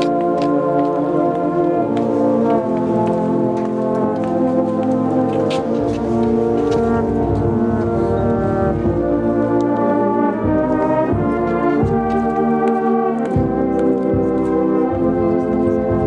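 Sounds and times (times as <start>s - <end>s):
brass band playing slow chords: 0.0s - 16.0s.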